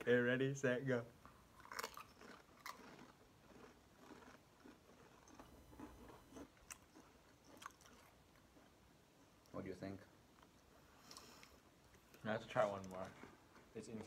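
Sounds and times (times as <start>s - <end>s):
people chewing crisps: 1.2s - 14.0s.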